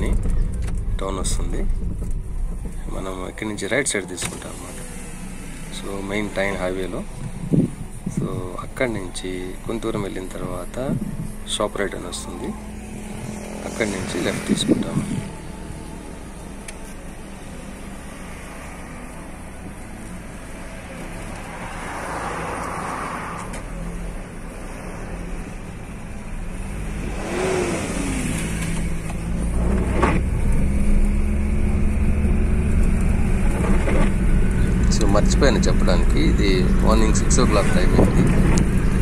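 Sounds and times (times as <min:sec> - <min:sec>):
car engine and road noise: 0:00.0 - 0:39.0
vehicle passing: 0:00.0 - 0:39.0.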